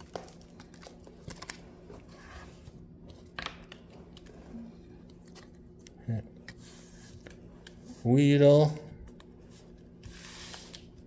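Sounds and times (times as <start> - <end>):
cards rustling and tapping: 0.0 - 2.2, 3.0 - 11.0.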